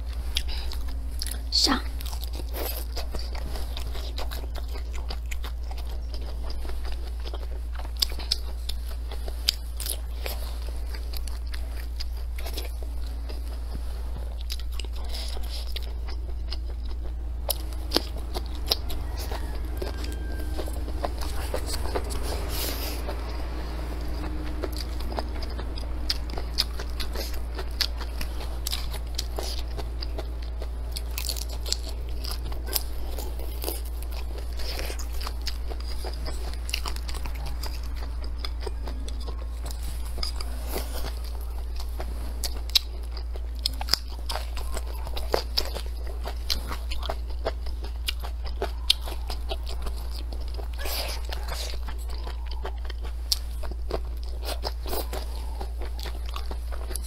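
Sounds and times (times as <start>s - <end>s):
person chewing crunchy food: 0.0s - 57.0s
steady low hum: 0.0s - 57.0s.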